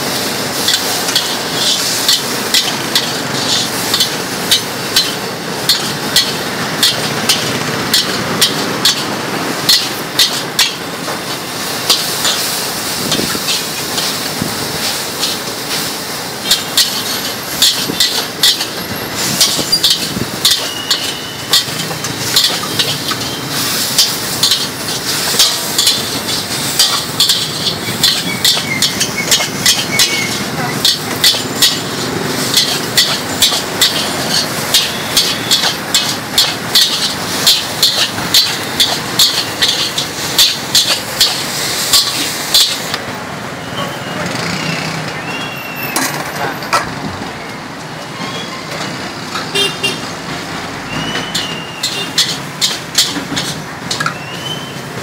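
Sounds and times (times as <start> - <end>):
steady background noise: 0.0 - 55.0
metal spatula scraping steel wok: 0.4 - 42.9, 51.0 - 54.6.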